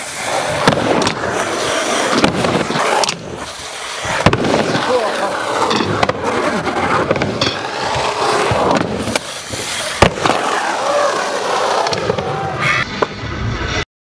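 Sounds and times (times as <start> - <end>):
skateboard cracking on ground: 0.0 - 13.1
skateboard wheels rolling on concrete: 0.0 - 13.8.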